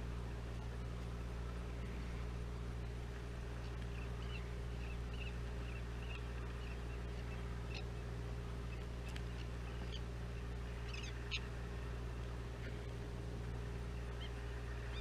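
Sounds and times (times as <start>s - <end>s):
boat engine humming: 0.0s - 15.0s
seabirds chirping: 0.3s - 15.0s.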